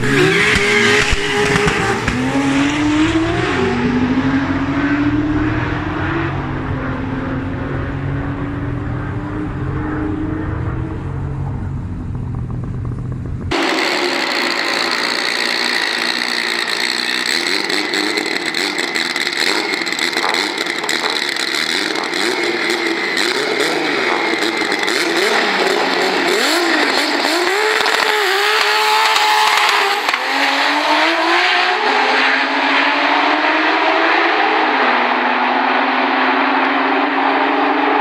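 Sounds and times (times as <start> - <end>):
cars accelerating hard: 0.0 - 38.0
race car engines revving: 0.0 - 38.0.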